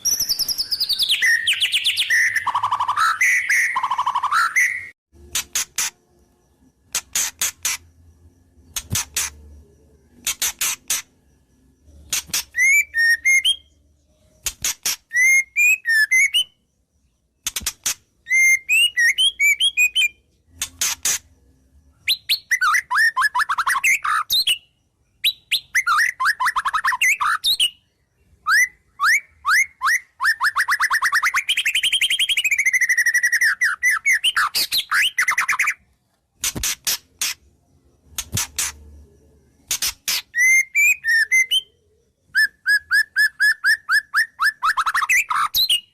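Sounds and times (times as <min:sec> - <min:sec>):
songbird singing with trills: 0:00.0 - 0:35.9, 0:37.6 - 0:45.9.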